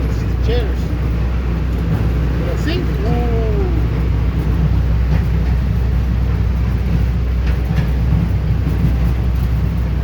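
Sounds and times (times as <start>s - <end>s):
faint track clacks: 0.0s - 10.0s
train rumbling along track: 0.0s - 10.0s.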